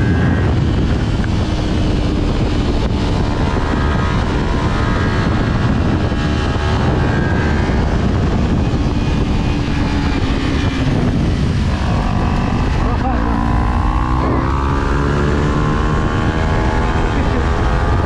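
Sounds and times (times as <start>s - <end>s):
motorcycle engine running hard: 0.0s - 18.0s
wind rush on microphone: 0.0s - 18.0s.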